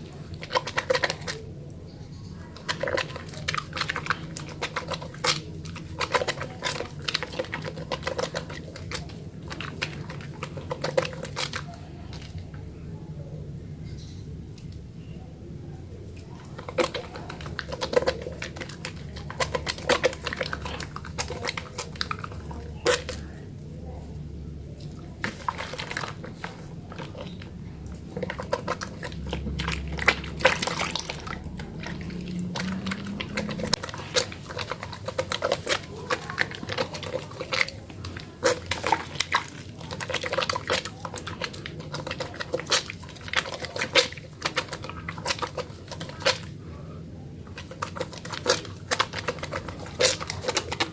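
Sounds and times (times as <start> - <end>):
wet hands smacking: 0.0 - 1.4, 2.6 - 12.4, 16.2 - 23.4, 24.8 - 46.6, 47.4 - 50.9
soap lather squelching: 0.0 - 12.7, 16.0 - 50.9.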